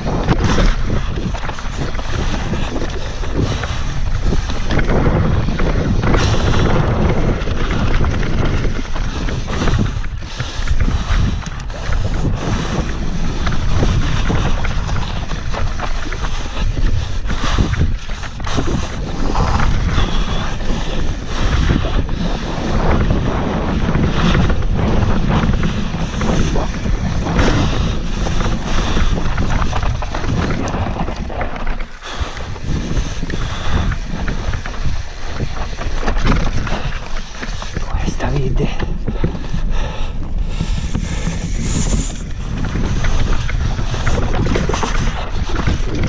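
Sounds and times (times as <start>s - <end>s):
bike clattering over bumps: 0.0s - 38.0s, 38.8s - 46.0s
tyres on dirt: 0.0s - 46.0s
wind rushing over microphone: 0.0s - 46.0s.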